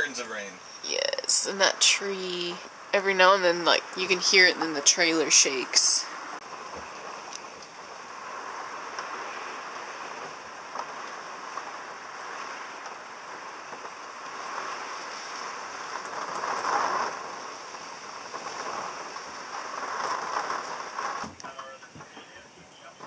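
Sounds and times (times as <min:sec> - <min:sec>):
heavy rain on trailer roof: 0:00.0 - 0:23.0.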